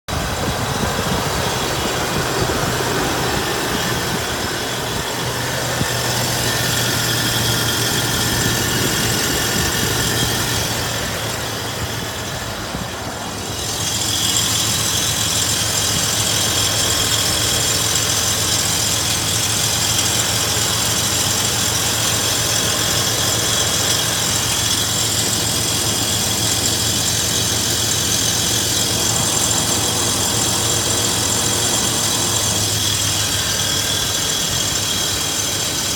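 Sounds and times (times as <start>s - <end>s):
engine running with grinding noise: 0.0s - 35.9s.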